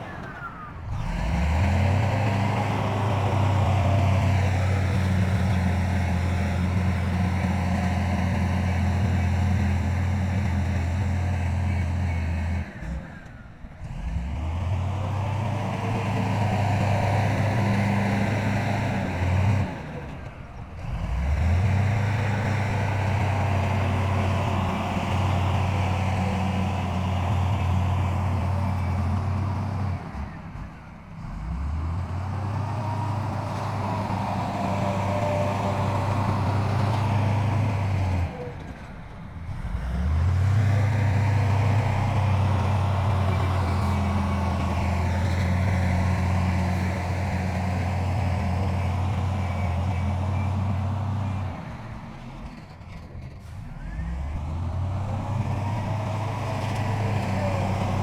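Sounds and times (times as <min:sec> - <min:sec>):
heavy diesel engine revving: 0:00.0 - 0:13.2, 0:13.8 - 0:58.0.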